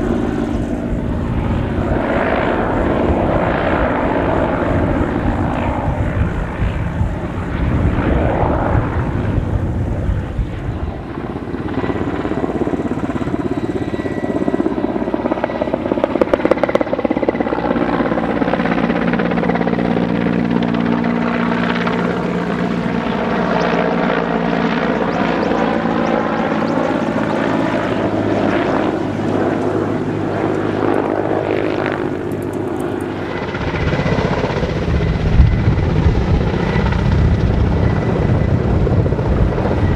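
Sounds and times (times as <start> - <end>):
helicopter engine drone: 0.0 - 39.9
helicopter rotor chop: 0.0 - 39.9.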